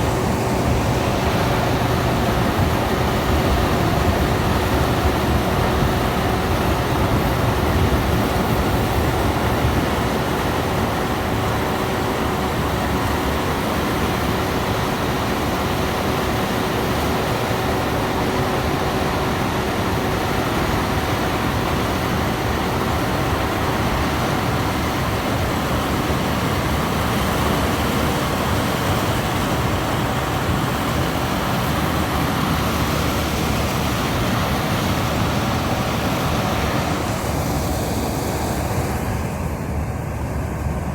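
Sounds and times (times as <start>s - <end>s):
harvester engine running: 0.0s - 40.9s.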